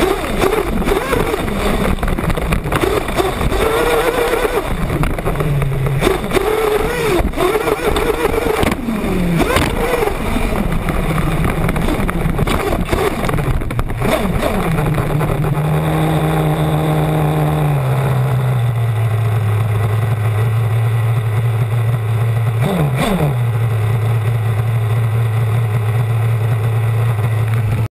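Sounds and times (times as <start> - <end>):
small nitro engine revving and idling: 0.0 - 27.9.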